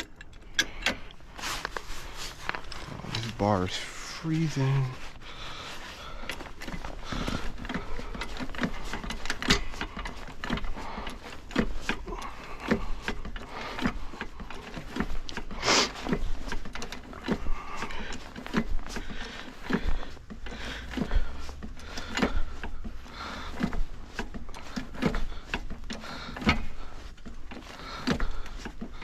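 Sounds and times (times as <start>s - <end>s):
floor jack pumping clicks: 0.0s - 29.0s.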